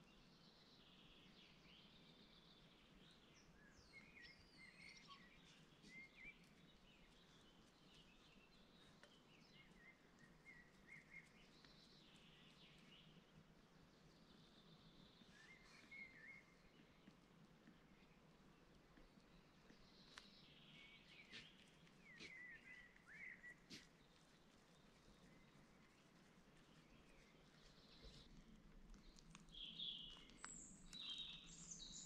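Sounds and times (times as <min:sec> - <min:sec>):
faint birdsong: 0:00.0 - 0:32.0.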